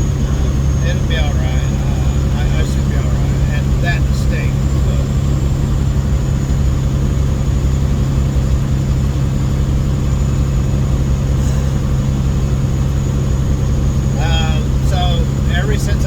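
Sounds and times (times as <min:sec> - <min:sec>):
diesel truck engine droning: 0:00.0 - 0:16.0
road noise: 0:00.0 - 0:16.0.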